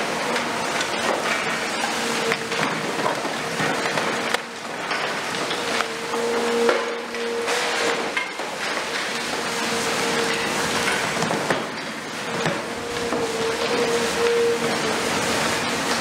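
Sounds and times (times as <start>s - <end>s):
excavator whine: 0.0s - 16.0s.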